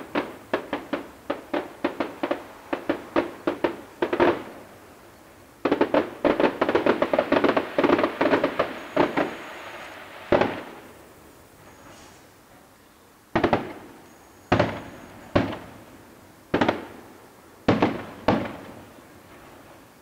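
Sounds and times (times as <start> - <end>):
fireworks bangs: 0.0 - 4.8, 5.6 - 11.0, 13.3 - 19.9.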